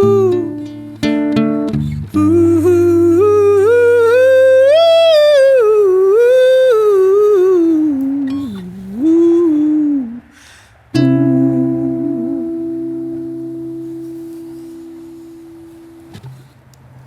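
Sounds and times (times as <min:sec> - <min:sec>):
man humming: 0:00.0 - 0:00.7, 0:01.7 - 0:10.4, 0:11.0 - 0:16.2
acoustic guitar chord strummed: 0:00.0 - 0:10.2, 0:10.9 - 0:16.6.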